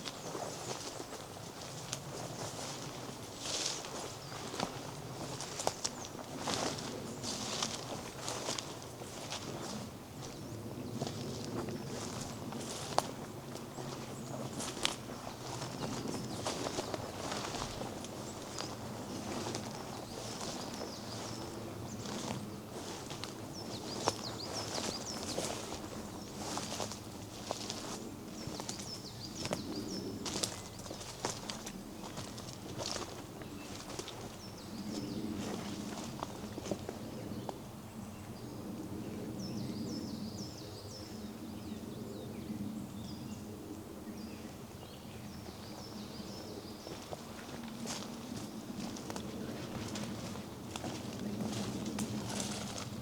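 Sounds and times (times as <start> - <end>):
footsteps on forest path: 0.0 - 37.6, 45.7 - 53.0
small birds chirping: 0.0 - 37.6, 44.2 - 53.0
songbird singing: 0.0 - 53.0.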